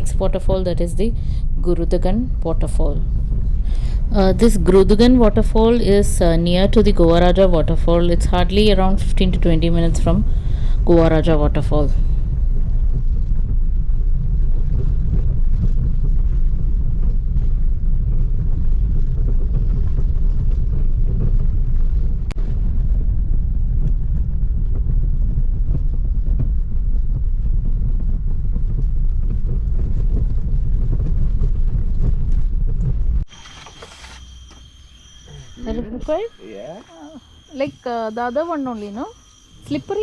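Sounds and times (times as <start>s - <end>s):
car rumble on the move: 0.0s - 33.3s
wind buffeting microphone: 0.0s - 33.3s.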